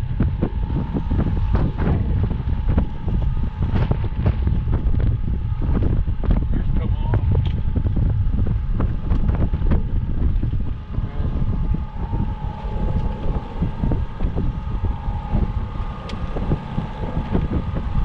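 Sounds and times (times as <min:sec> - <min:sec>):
faint steady whine: 0:00.0 - 0:18.0
wind buffeting microphone: 0:00.0 - 0:18.0.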